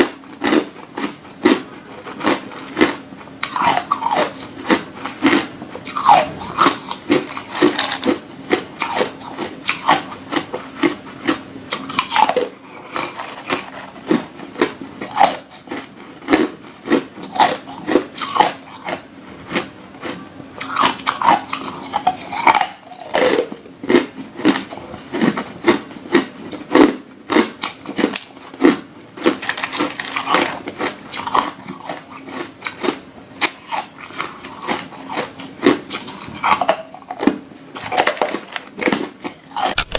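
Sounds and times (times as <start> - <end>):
ice crunching between teeth: 0.4 - 39.9.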